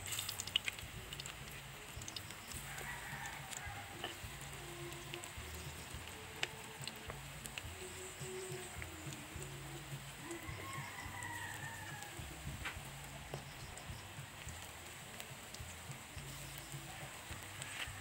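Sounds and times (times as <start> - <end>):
food frying in hot oil: 0.0 - 18.0.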